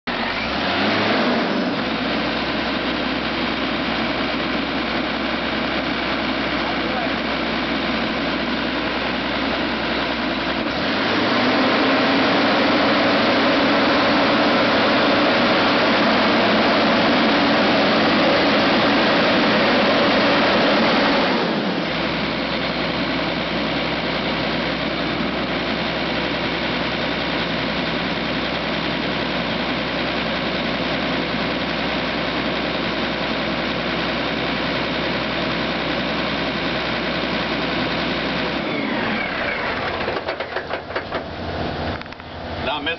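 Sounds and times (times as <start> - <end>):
diesel engine revving and idling: 0.1 - 42.9.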